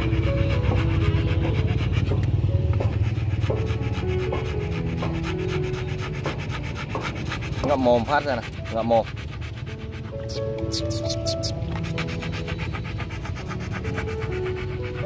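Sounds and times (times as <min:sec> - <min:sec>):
dog panting fast: 0:00.0 - 0:15.0.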